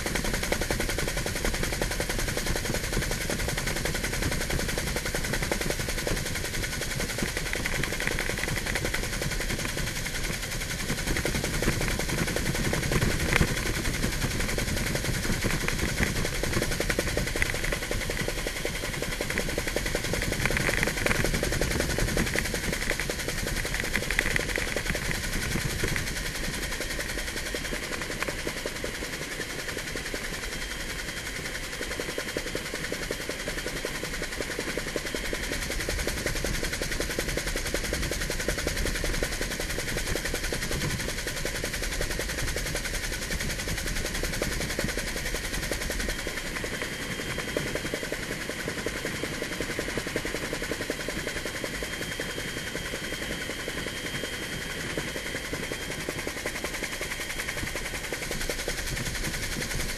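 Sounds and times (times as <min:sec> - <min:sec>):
helicopter rotor chop: 0:00.0 - 0:59.9.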